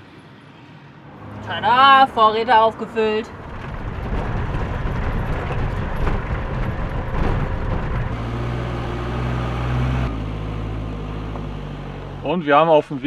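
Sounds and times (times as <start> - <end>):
steady engine hum: 0.0 - 13.0
van rumbling on dirt track: 1.2 - 13.0.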